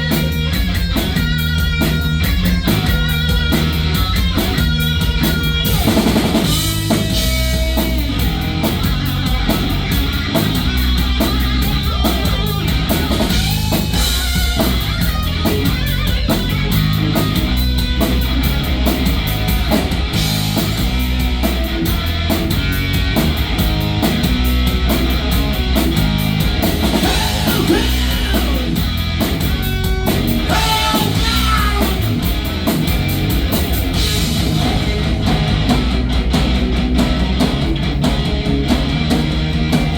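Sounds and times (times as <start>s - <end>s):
bass guitar: 0.0s - 39.9s
distorted electric guitars: 0.0s - 39.9s
driving drum kit: 0.0s - 39.9s.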